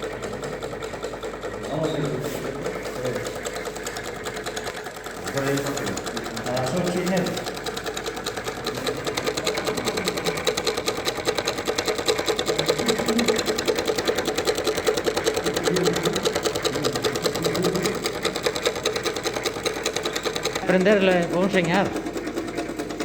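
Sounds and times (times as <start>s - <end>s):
small machine clattering: 0.0s - 23.0s.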